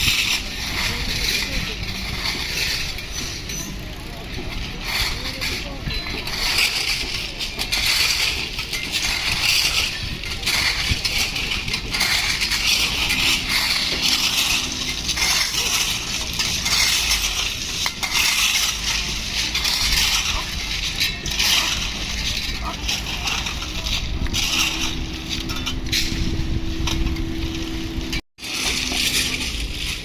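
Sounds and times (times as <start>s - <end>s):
gravel crunching and scraping: 0.0s - 30.0s.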